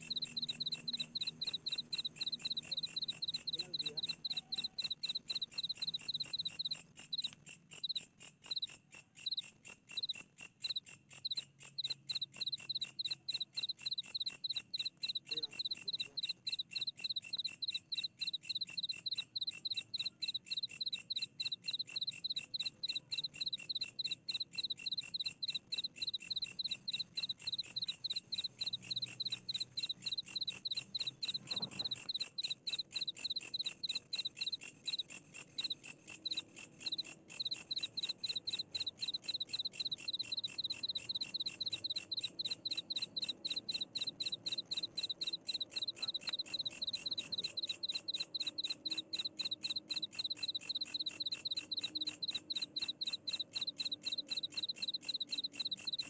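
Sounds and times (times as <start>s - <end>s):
night insects chirping: 0.0s - 56.0s.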